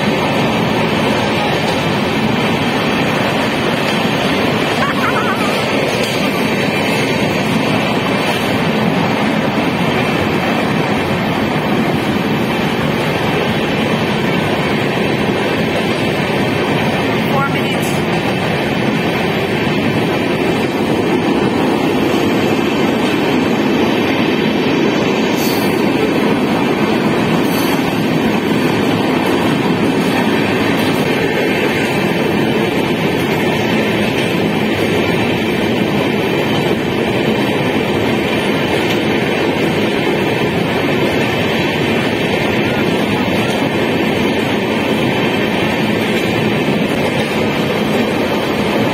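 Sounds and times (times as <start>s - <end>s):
passenger train rumble from aboard: 0.0s - 48.9s.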